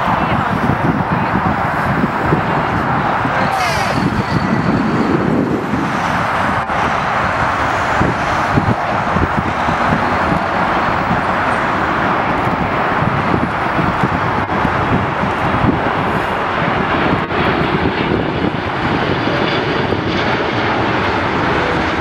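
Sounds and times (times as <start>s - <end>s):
loud engine roar: 0.0s - 22.0s
wind buffeting microphone: 0.0s - 22.0s.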